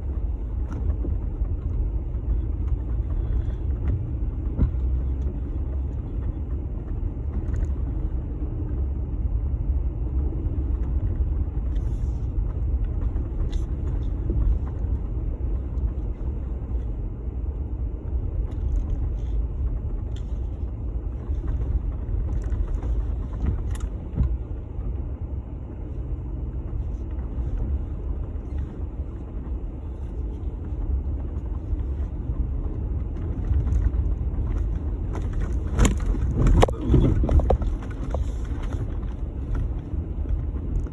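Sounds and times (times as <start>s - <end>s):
engine and tyres rumbling: 0.0s - 40.9s.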